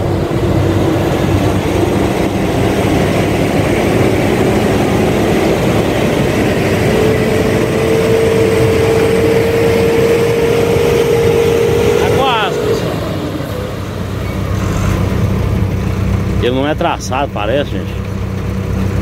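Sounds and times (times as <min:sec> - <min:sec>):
dump truck diesel engine straining: 0:00.0 - 0:19.0.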